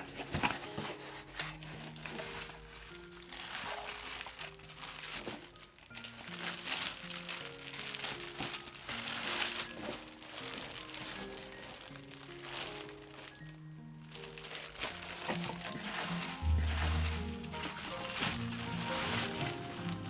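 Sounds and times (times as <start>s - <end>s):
background music: 0.0s - 20.0s
crinkling rustling handling noise: 0.0s - 20.0s.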